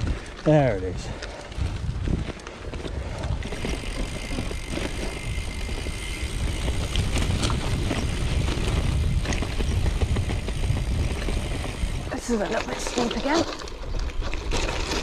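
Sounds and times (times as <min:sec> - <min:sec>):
wind rush on microphone: 0:00.0 - 0:14.8
bike tyres rolling on trail: 0:00.0 - 0:15.0.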